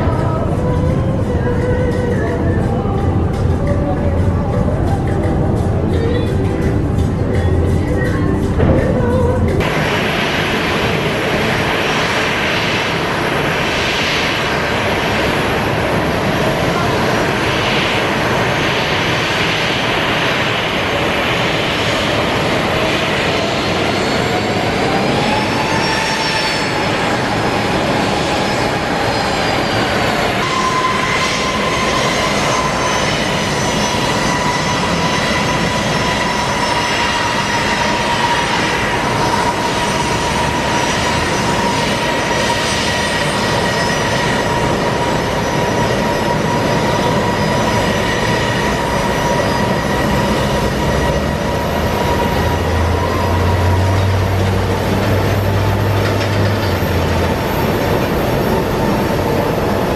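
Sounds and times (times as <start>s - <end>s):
high turbofan whine: 0.0s - 59.9s
jet engines idling: 0.0s - 59.9s.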